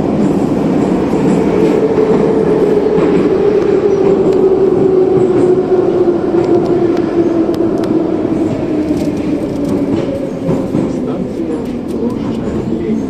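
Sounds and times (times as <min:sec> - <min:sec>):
metro train motor whine: 0:00.0 - 0:13.0
train rumble: 0:00.0 - 0:13.0.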